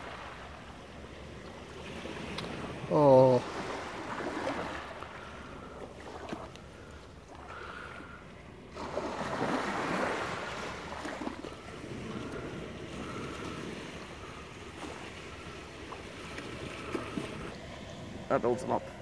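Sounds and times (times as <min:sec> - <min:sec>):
sea waves washing onto beach: 0:00.0 - 0:19.0.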